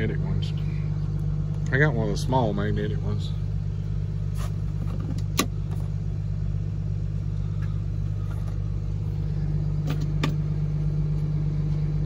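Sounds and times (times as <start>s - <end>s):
motor droning: 0.0s - 12.0s.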